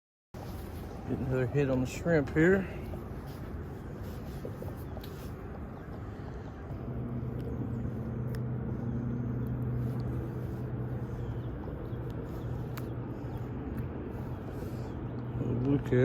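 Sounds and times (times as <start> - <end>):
low engine hum: 0.4 - 16.0.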